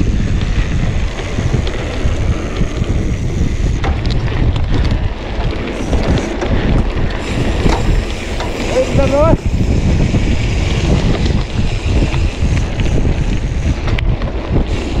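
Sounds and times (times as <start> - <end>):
bike rattling over dirt: 0.0 - 15.0
wind buffeting microphone: 0.0 - 15.0.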